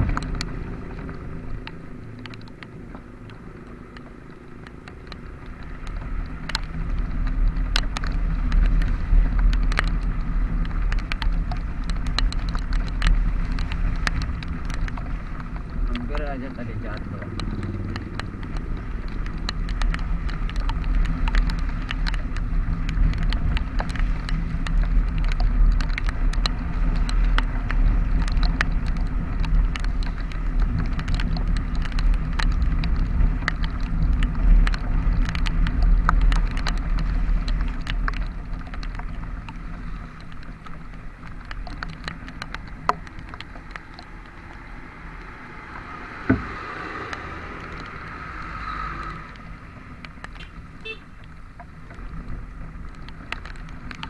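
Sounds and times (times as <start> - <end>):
engine and road rumble: 0.0 - 54.0
raindrops ticking: 0.0 - 54.0.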